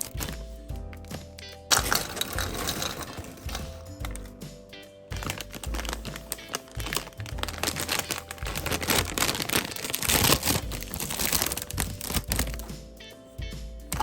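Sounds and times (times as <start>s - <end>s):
plastic chip bag crinkling: 0.0s - 4.4s, 5.1s - 12.7s.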